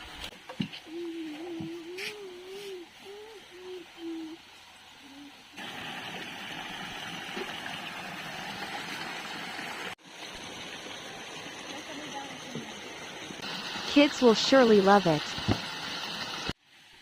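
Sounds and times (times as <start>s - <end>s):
water rushing: 0.9s - 16.6s.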